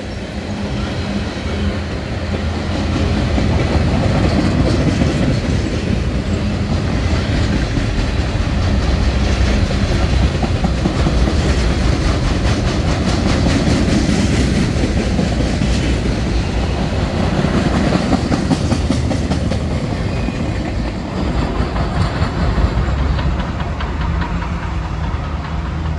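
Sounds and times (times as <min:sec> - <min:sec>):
freight train rumbling: 0:00.0 - 0:25.9
wheels clicking over rail joints: 0:02.3 - 0:25.9.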